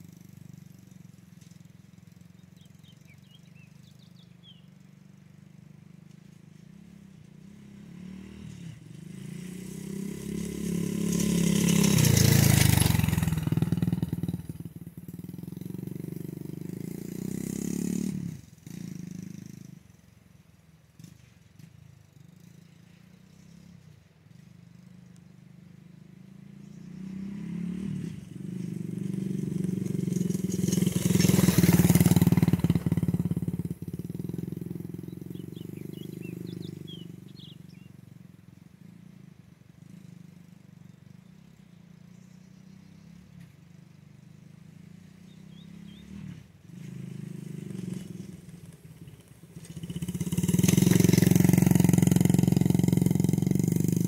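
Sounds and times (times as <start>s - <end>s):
dirt bike engine passing: 0.0s - 54.0s.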